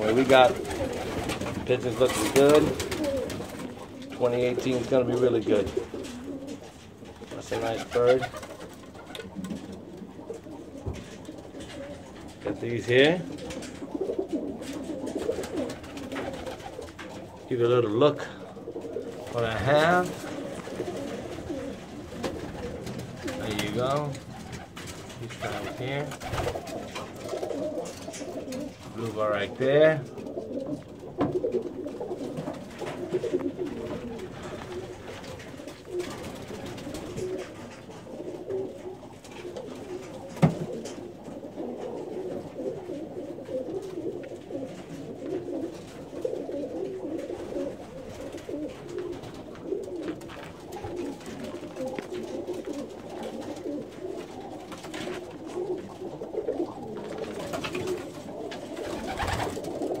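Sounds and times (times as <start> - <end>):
pigeons cooing: 0.0 - 60.0.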